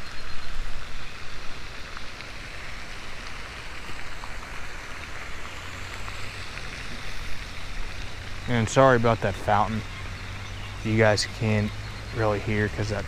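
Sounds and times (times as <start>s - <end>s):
fountain splashing water: 0.0s - 13.0s.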